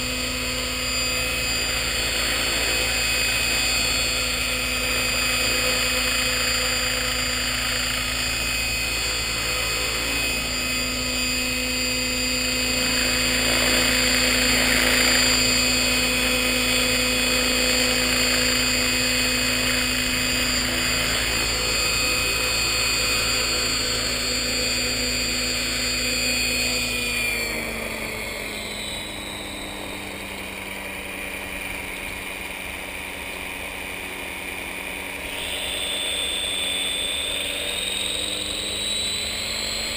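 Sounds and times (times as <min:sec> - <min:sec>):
rc helicopter rotor whine: 0:00.0 - 0:39.9.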